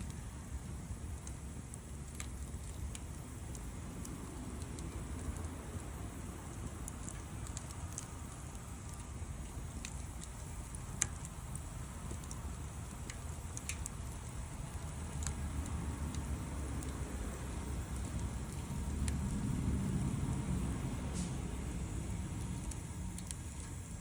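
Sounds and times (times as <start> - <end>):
low rumble: 0.0 - 24.0
wood fire crackling and popping: 0.0 - 24.0.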